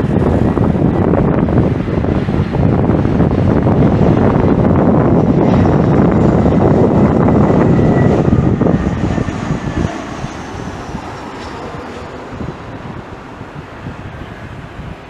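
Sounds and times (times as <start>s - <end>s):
high engine whine: 0.0s - 15.0s
jet airliner engine roar: 0.0s - 15.0s.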